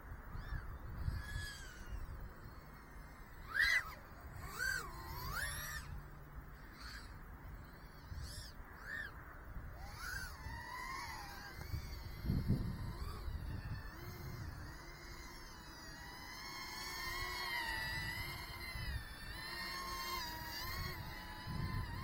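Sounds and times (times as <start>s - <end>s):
drone motors whining: 0.0s - 22.0s
wind rumble on microphone: 0.0s - 22.0s.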